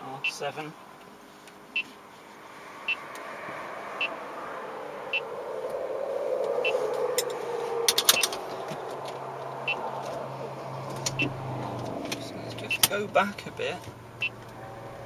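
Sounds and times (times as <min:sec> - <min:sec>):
passing vehicle: 0:00.7 - 0:15.0.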